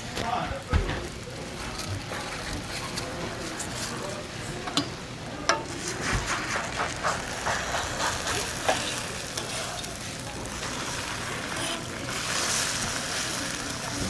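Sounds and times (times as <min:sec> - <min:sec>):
pancakes sizzling on griddle: 0:00.2 - 0:14.0.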